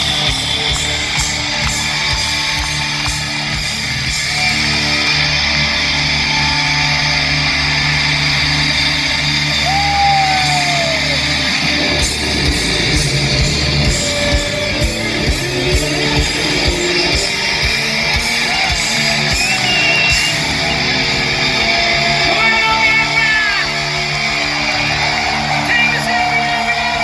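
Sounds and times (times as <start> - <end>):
crowd noise: 0.0 - 27.0
electric guitars: 0.0 - 27.0
hard rock band playing live: 0.0 - 27.0.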